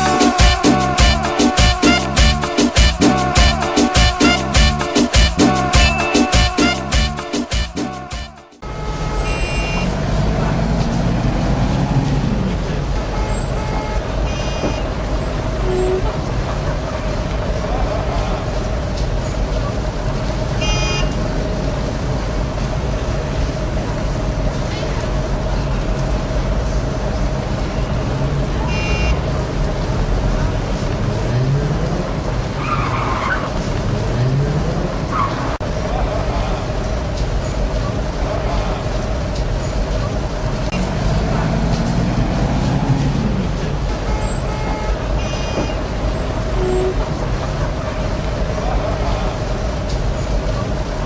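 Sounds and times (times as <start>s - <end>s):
heavy vehicle engine: 0.0s - 32.6s, 33.5s - 51.0s
rumble of street traffic: 0.0s - 51.0s.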